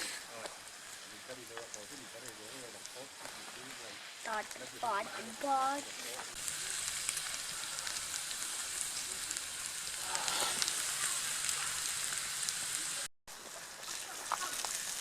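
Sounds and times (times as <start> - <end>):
campfire crackling and popping: 0.0 - 15.0
food sizzling in a frying pan: 0.0 - 15.0.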